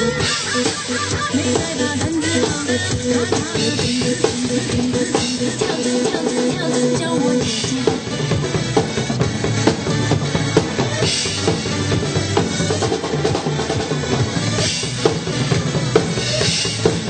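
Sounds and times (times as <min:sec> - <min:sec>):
drum kit beat: 0:00.0 - 0:17.0
sustained instrumental notes: 0:00.0 - 0:17.0.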